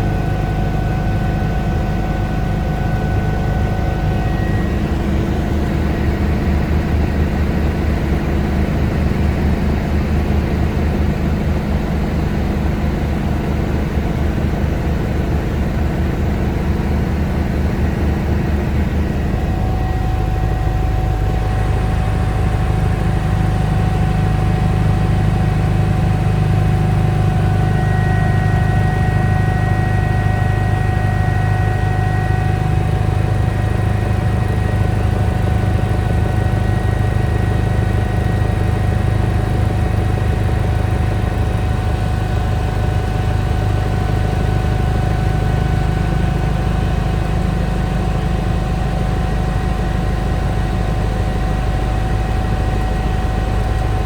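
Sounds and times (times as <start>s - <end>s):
helicopter rotor throb: 0.0s - 54.0s
helicopter turbine whine: 0.0s - 54.0s.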